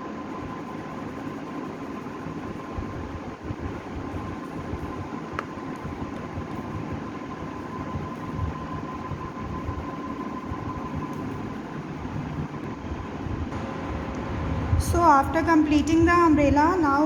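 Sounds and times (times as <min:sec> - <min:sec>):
faint steady whine: 0:00.0 - 0:17.0.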